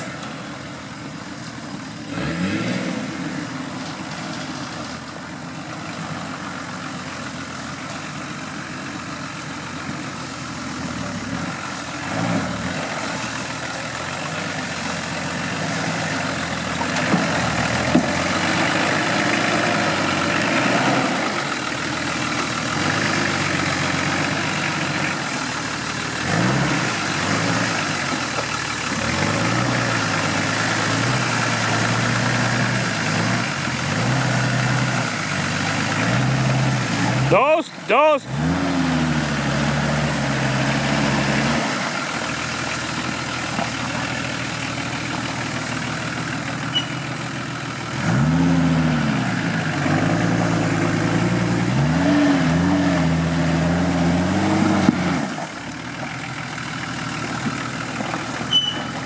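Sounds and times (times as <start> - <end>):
off-road vehicle engine revving: 1.8 - 5.0, 5.6 - 59.0.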